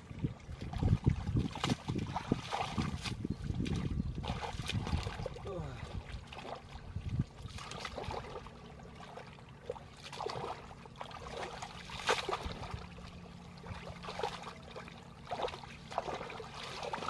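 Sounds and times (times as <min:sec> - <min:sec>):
hands splashing in muddy water: 0:00.6 - 0:12.8, 0:13.6 - 0:17.0.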